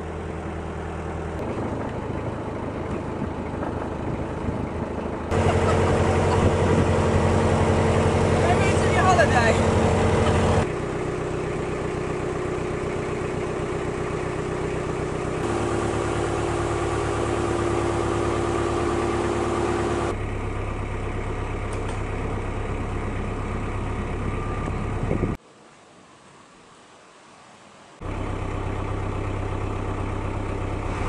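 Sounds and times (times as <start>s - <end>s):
diesel engine running at low revs: 0.0s - 25.4s, 28.0s - 31.0s.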